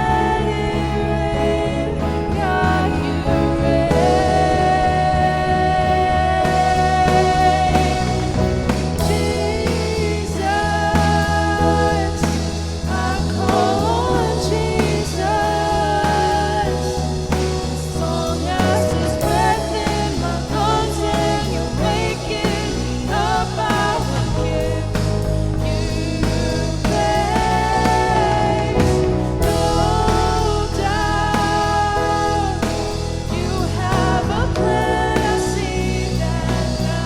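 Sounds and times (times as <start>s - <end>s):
person singing lead vocals: 0.0s - 37.0s
worship band playing: 0.0s - 37.0s.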